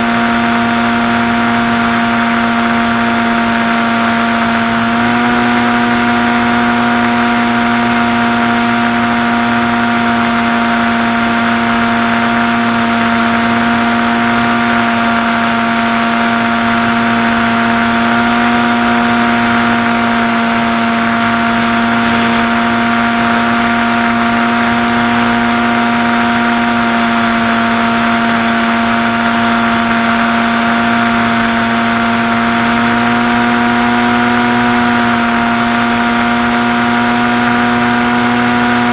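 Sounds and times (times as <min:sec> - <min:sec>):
model plane motor whining: 0:00.0 - 0:38.9.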